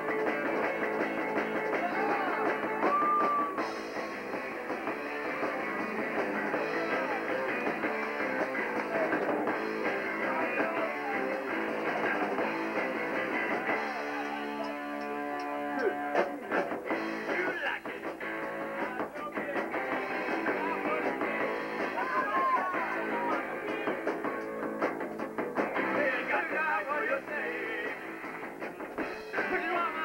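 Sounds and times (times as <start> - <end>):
drums: 0.0 - 30.0
electric guitar: 0.0 - 30.0
live rock band playing: 0.0 - 30.0.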